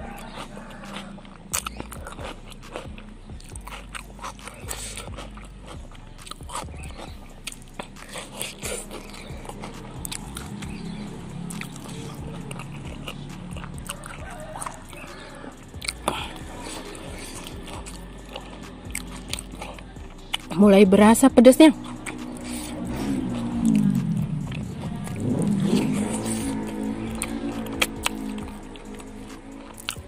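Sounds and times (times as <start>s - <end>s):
wet mouth clicks and smacks: 0.0s - 20.6s, 21.8s - 30.0s
chewing and crunching vegetables: 0.0s - 30.0s.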